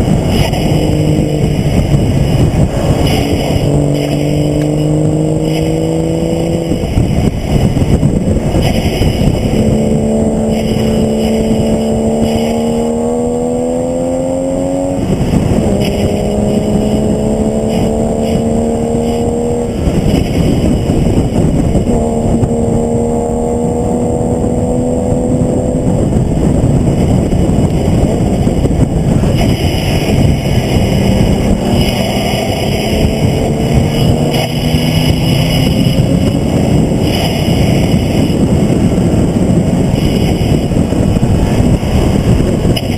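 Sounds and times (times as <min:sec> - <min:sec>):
race car engine accelerating: 0:00.0 - 0:42.9
wind and road noise: 0:00.0 - 0:42.9.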